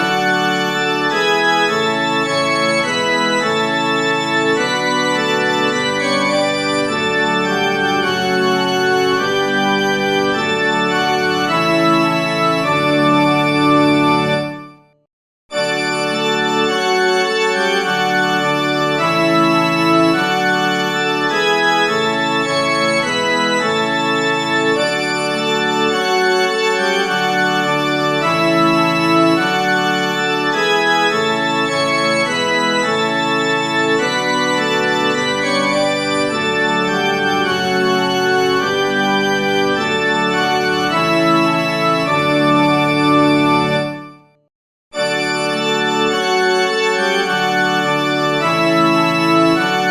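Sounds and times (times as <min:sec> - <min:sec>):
organ playing sustained chords: 0:00.0 - 0:14.6, 0:15.6 - 0:44.1, 0:45.0 - 0:49.9.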